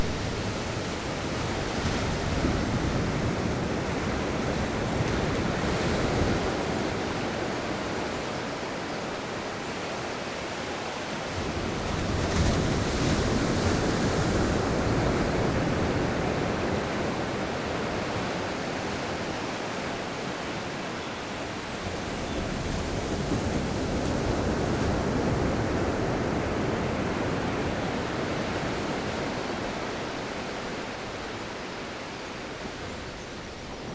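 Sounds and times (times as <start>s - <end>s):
sea waves breaking on beach: 0.0s - 33.9s
wind: 0.0s - 33.9s.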